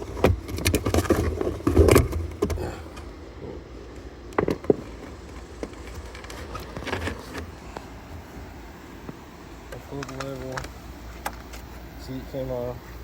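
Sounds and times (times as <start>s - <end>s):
handling noise: 0.0s - 3.2s, 3.9s - 11.9s.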